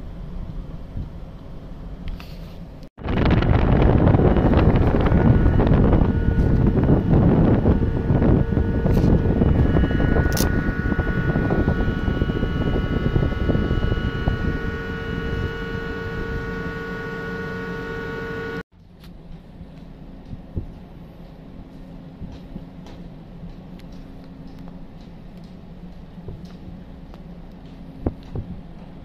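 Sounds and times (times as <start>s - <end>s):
machinery hum with whining tones: 0.0s - 29.0s.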